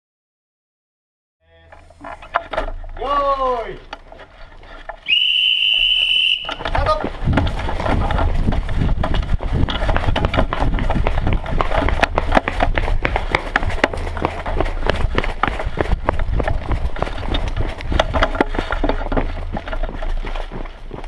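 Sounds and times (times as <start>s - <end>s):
running footsteps: 1.6s - 21.0s
gear and rifle rattling: 1.7s - 21.0s
wind rumble: 1.8s - 21.0s.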